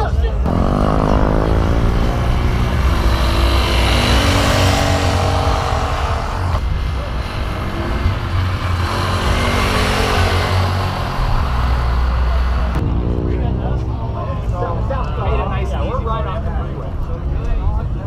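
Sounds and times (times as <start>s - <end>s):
vehicle engine deep rumble: 0.0s - 18.0s.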